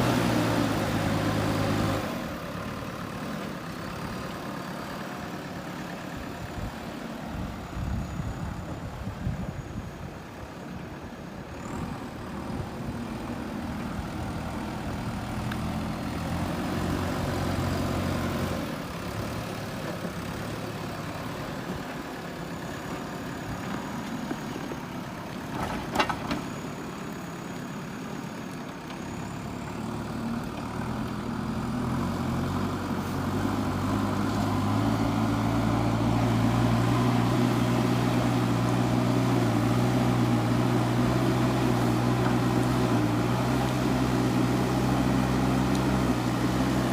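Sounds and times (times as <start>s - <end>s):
backhoe diesel engine running: 0.0s - 46.9s.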